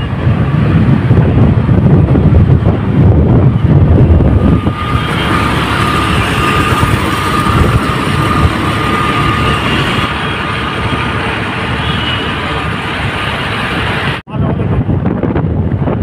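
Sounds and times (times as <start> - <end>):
motorbike engine and tyres: 0.0 - 14.2
wind rushing over microphone: 0.0 - 16.0.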